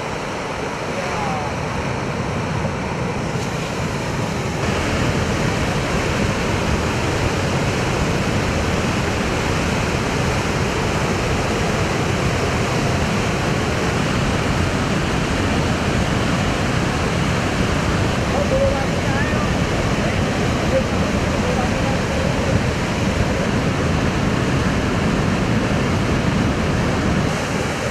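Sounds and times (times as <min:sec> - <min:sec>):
mudflow rushing down a channel: 0:00.0 - 0:27.9.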